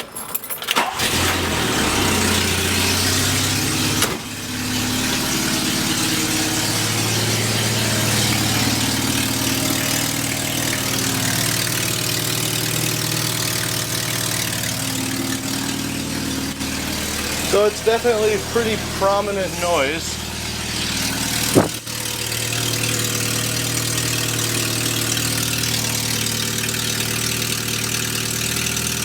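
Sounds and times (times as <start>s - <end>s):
car engine starting and idling: 0.1s - 29.0s.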